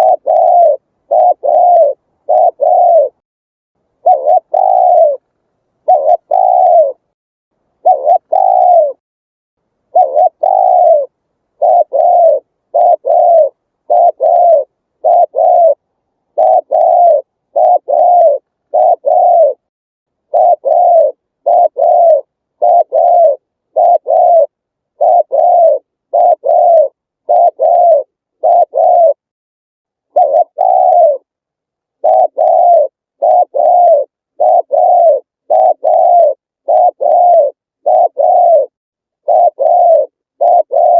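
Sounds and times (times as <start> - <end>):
dove cooing: 0.0 - 3.2, 4.0 - 7.1, 7.8 - 9.0, 9.9 - 29.2, 30.1 - 31.3, 32.0 - 40.9.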